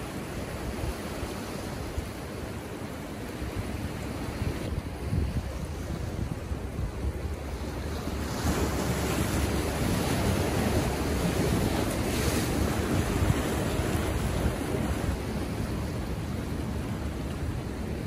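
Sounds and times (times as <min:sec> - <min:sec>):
ocean surf washing over rocks: 0:00.0 - 0:18.0
wind buffeting microphone: 0:03.5 - 0:18.0.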